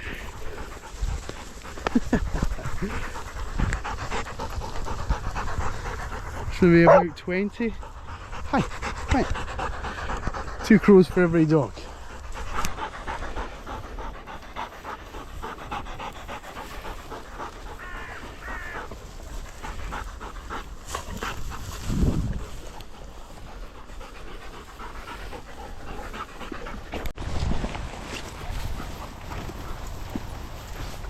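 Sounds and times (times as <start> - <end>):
dogs panting: 0.0 - 27.2, 28.1 - 31.0.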